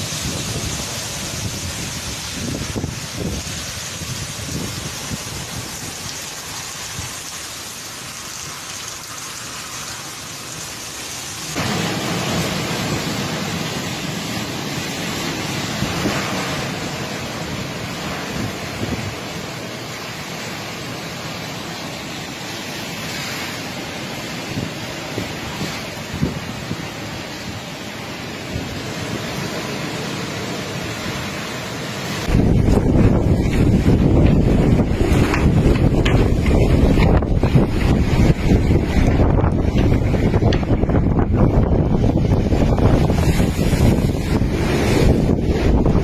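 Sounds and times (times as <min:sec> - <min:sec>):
strong wind buffeting: 0:00.0 - 0:07.3, 0:11.5 - 0:20.2, 0:24.0 - 0:46.0
rain: 0:00.0 - 0:46.0.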